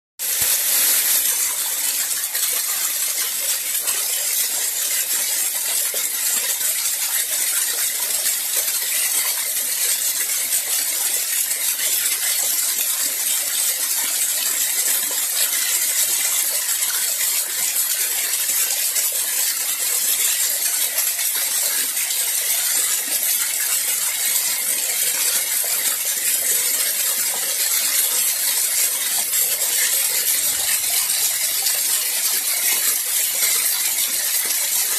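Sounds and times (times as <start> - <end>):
water splashing down rocky cascade: 0.2 - 34.9.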